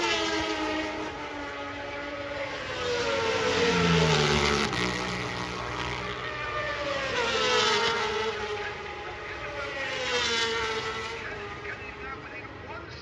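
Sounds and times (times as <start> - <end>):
racing motorbikes passing at speed: 0.0 - 13.0.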